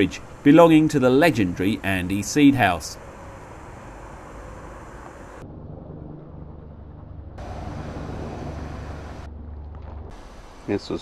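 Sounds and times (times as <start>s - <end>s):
low mechanical hum: 0.0s - 10.9s.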